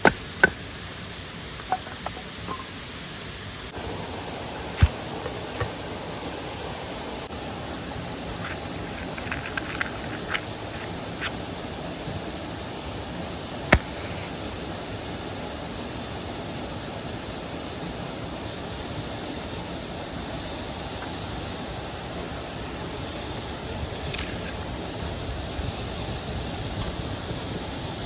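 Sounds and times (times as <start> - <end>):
stream and waterfall rushing: 0.0 - 28.0.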